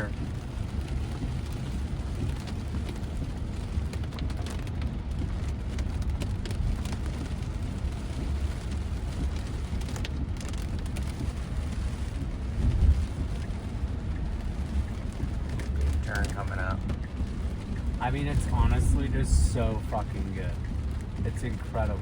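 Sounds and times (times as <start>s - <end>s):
rain pattering on car: 0.0s - 22.0s
road rumble inside car: 0.0s - 22.0s.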